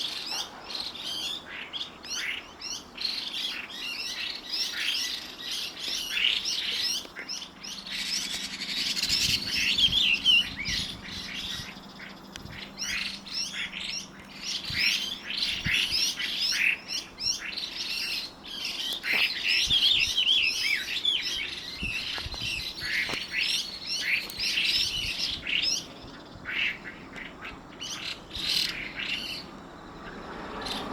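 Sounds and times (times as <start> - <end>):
bird singing and warbling: 0.0 - 30.9.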